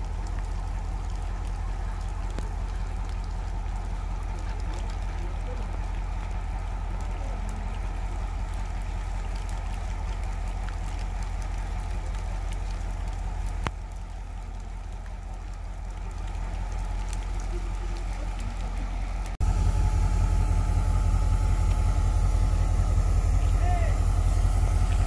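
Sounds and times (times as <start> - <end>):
heavy rain: 0.0 - 25.0
locomotive diesel engine throbbing: 0.0 - 25.0.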